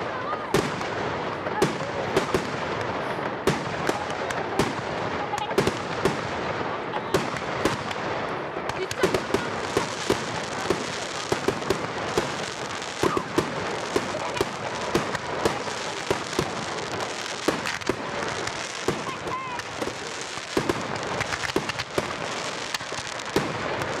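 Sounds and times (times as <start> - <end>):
fireworks crackling and banging: 0.0 - 24.0
voices: 0.0 - 24.0.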